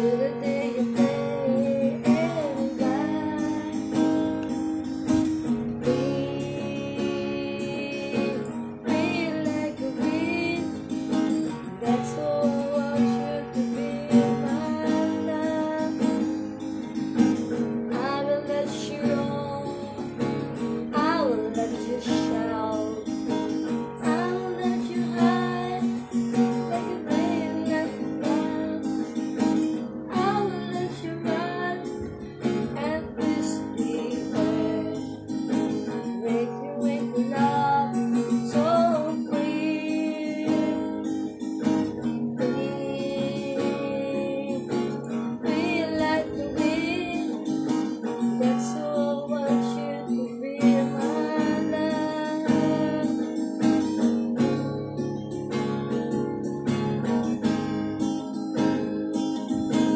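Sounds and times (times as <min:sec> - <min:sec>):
person singing: 0:00.0 - 0:04.6, 0:05.6 - 0:16.5, 0:17.8 - 0:55.1
acoustic guitar strumming: 0:00.0 - 0:59.9.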